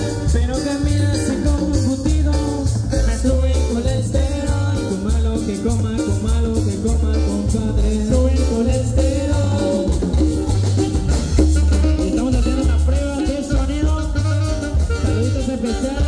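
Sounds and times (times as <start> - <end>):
person singing into microphone: 0.0 - 10.4, 11.8 - 16.0
live cumbia band playing: 0.0 - 16.0.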